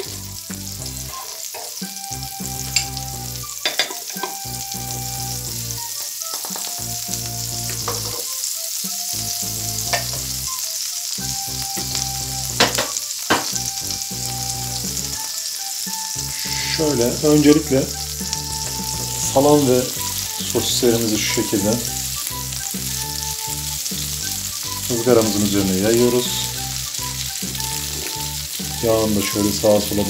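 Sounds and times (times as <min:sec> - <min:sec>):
butter sizzling on a grill plate: 0:00.0 - 0:30.0.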